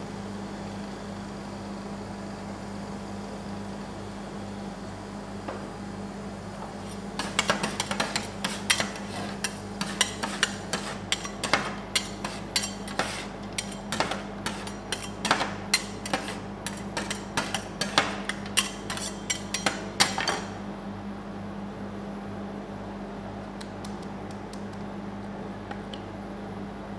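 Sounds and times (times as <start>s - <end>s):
low machine hum: 0.0s - 26.9s.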